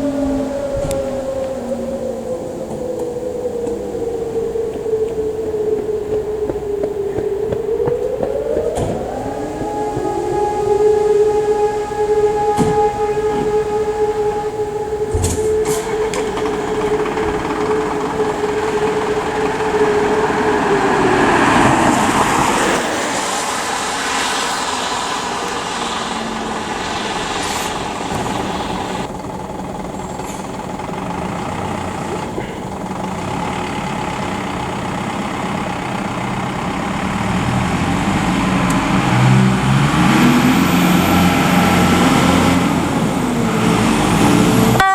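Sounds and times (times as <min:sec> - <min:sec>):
siren wailing: 0:00.0 - 0:44.9.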